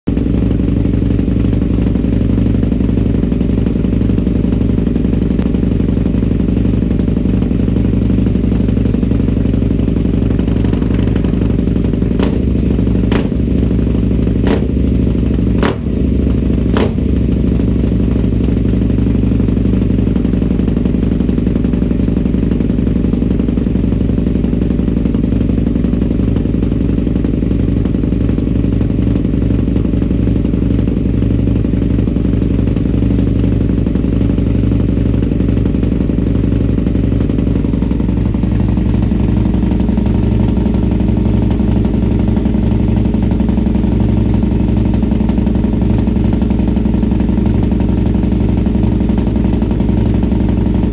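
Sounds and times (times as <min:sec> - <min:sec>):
motorcycle engine idling: 0:00.1 - 0:50.9.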